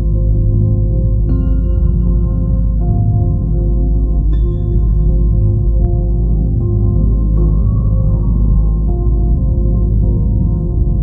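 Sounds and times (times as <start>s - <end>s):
low drone: 0.0s - 11.0s.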